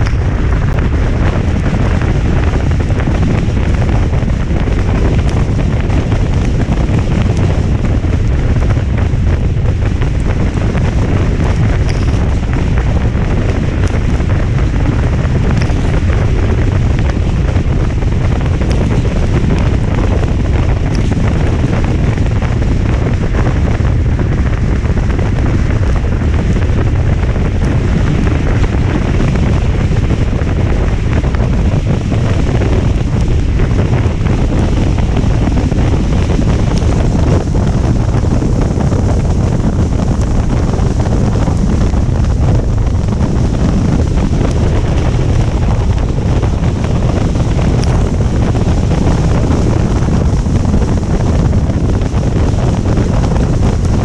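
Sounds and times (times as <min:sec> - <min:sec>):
rain: 0:00.0 - 0:54.0
wind buffeting microphone: 0:00.0 - 0:54.0.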